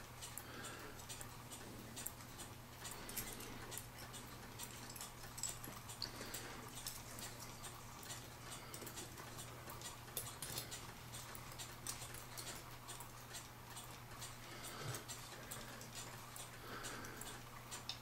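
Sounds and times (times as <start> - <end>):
small clicks of clock movement: 0.0 - 18.0.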